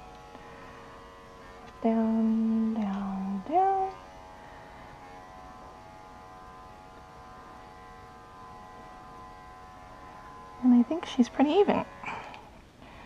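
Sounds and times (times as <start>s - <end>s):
electric clipper humming: 0.0s - 13.0s.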